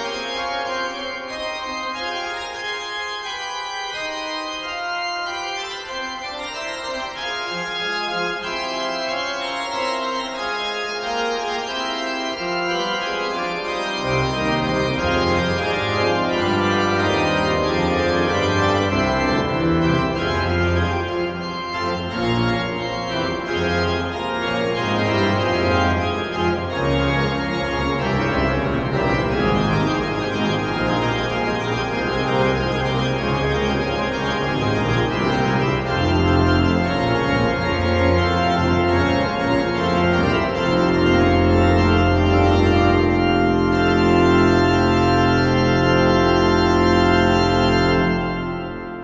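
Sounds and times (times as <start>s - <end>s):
pipe organ playing a fugue: 0.0s - 49.0s.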